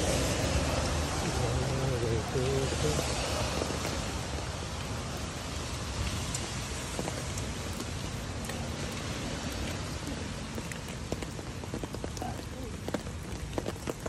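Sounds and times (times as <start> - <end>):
rain on pavement: 0.0 - 14.0.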